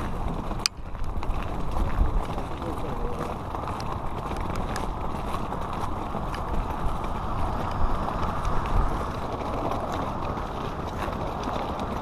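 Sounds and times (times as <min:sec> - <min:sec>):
footsteps on wet gravel: 0:00.0 - 0:12.0
wind on microphone: 0:00.0 - 0:12.0.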